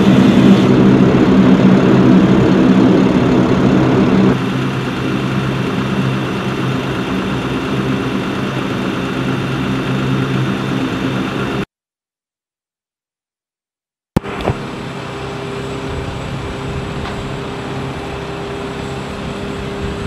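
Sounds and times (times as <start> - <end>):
heavy engine idling: 0.0 - 11.6, 14.3 - 20.0.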